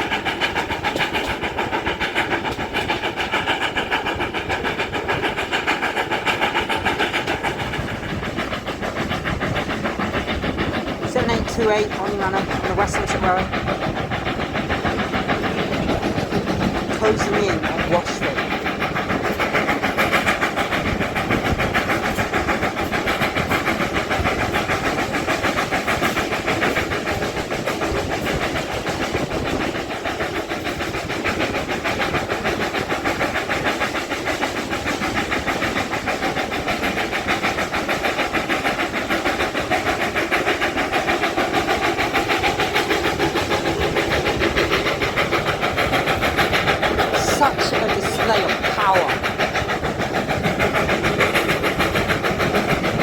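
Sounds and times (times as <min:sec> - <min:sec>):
steam hiss: 0:00.0 - 0:53.0
steam locomotive exhaust beating: 0:00.0 - 0:53.0
train running: 0:00.0 - 0:53.0.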